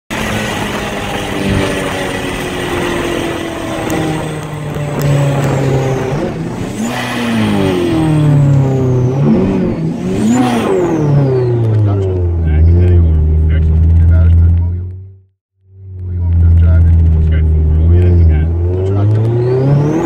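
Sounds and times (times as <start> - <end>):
car engine accelerating: 0.1 - 20.0.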